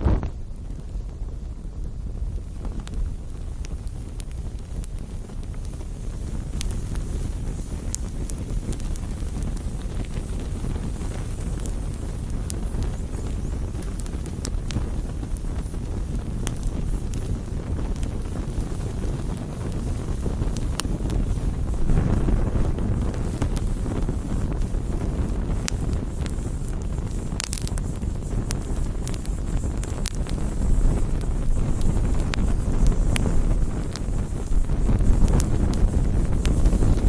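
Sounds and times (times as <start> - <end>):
burning wood crackling and popping: 0.0 - 37.0
campfire flames rushing: 0.0 - 37.0.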